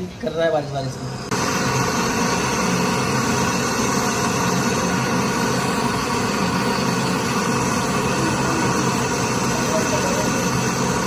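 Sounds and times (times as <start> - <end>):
machine drone: 0.7 - 11.0.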